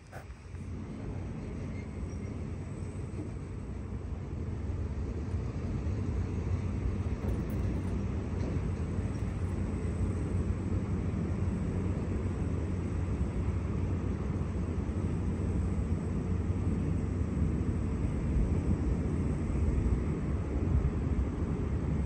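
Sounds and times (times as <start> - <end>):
distant city rumble: 0.0 - 22.0.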